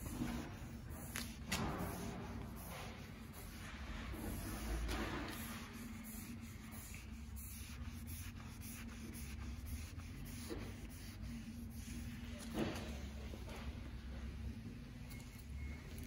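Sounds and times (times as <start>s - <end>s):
cloth wiping on wood: 0.0s - 13.1s.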